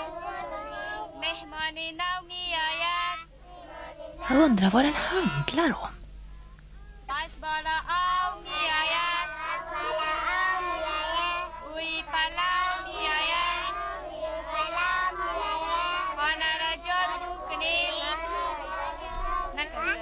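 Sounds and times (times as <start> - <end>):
girl singing unaccompanied: 0.0 - 5.6, 6.4 - 20.0.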